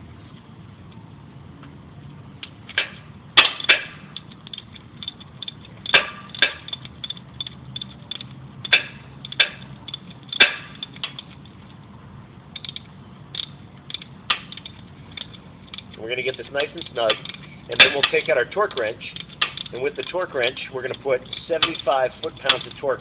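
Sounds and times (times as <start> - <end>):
hand ratchet clicking: 2.7 - 11.8, 12.6 - 23.0
sharp ratchet clacks: 2.7 - 11.8, 12.6 - 23.0.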